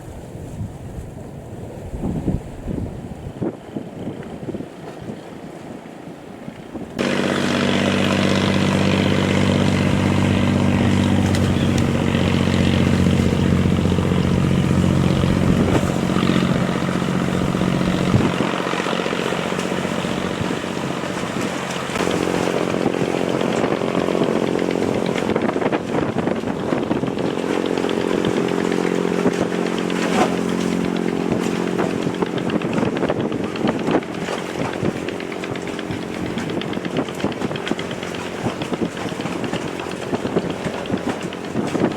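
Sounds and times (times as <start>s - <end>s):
boat engine running: 3.7s - 41.9s.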